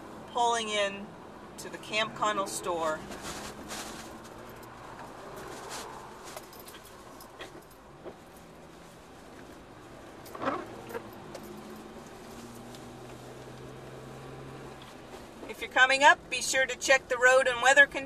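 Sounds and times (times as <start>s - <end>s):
car engine hum: 0.0s - 18.0s.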